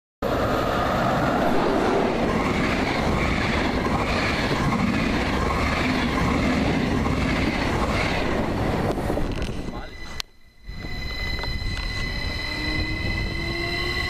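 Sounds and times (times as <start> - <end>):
train rushing past: 0.2 - 14.0.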